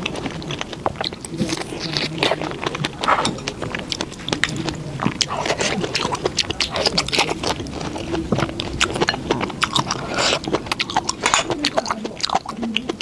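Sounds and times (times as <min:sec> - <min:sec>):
person chewing and biting food: 0:00.0 - 0:13.0.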